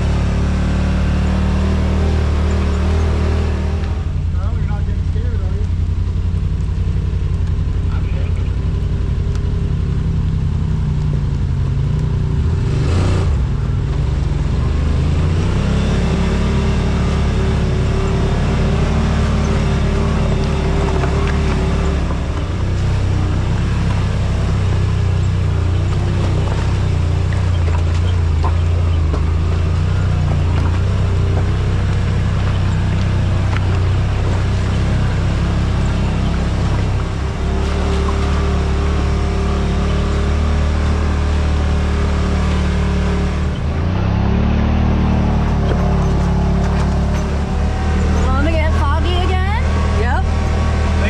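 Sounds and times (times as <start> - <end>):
tyre and drivetrain noise: 0.0 - 51.0
vehicle engine running: 0.0 - 51.0.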